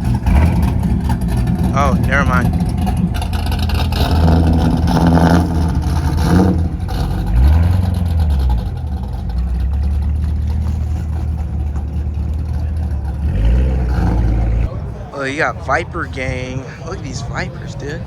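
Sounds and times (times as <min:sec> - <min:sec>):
car engine rumbling and revving: 0:00.0 - 0:18.0.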